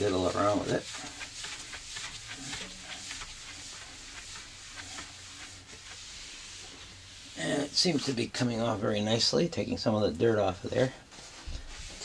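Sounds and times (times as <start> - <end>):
cloth rubbing on steel: 0.0 - 8.8, 11.1 - 12.0.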